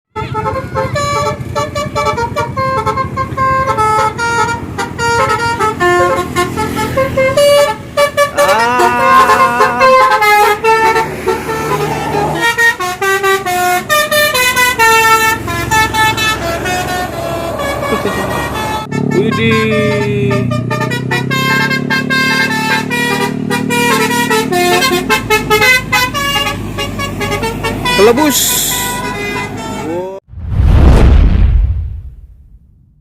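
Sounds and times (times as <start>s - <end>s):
multi-tone bus horn melody: 0.1s - 30.2s.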